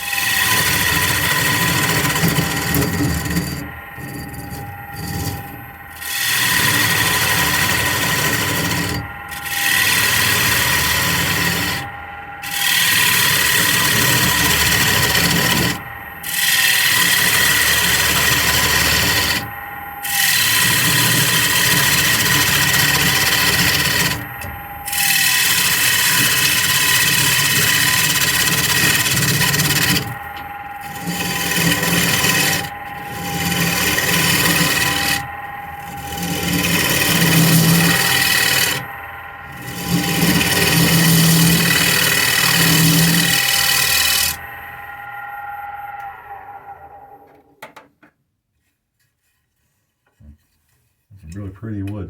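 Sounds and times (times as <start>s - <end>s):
lathe tool cutting wood: 0.0s - 47.1s
lathe motor hum: 0.0s - 47.3s.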